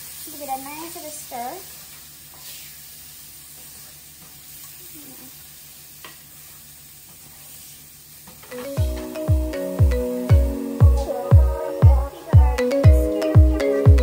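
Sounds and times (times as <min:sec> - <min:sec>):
food sizzling in frying pan: 0:00.0 - 0:12.3.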